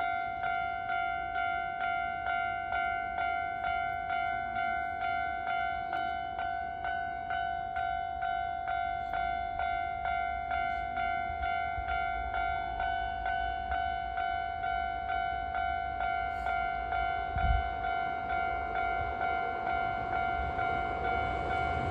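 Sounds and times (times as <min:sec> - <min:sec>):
level crossing bell clanging: 0:00.0 - 0:21.9.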